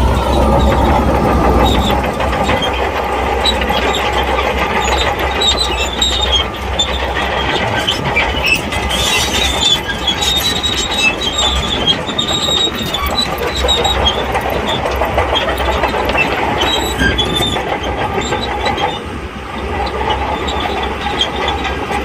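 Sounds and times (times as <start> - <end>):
diesel engine running: 0.0 - 22.0
steel tracks squealing and clattering: 0.0 - 22.0.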